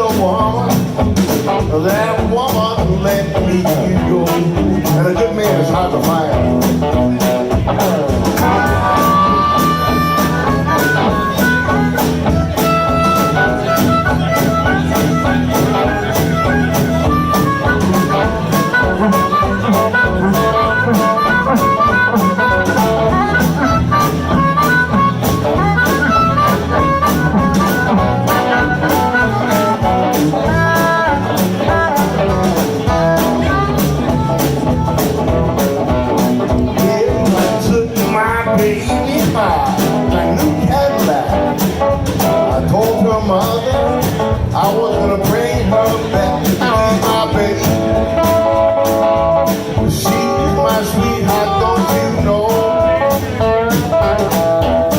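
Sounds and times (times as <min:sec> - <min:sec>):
live electric blues band: 0:00.0 - 0:54.9.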